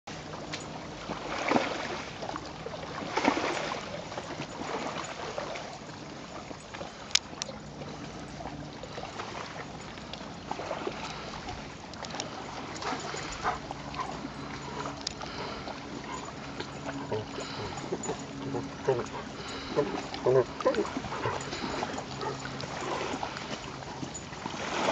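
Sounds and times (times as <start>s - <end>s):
lake water lapping: 0.1s - 24.9s.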